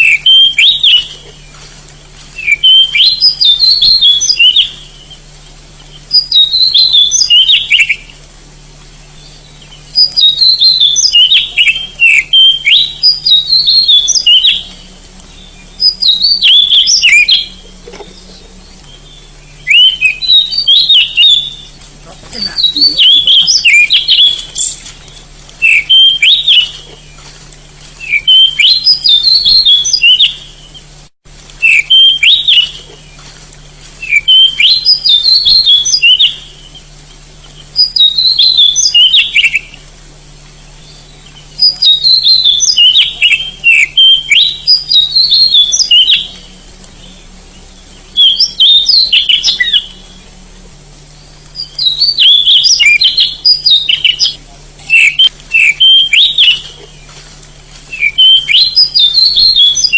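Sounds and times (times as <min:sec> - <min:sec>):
bird singing: 0:00.0 - 0:59.9
faint low hum: 0:00.0 - 0:59.9.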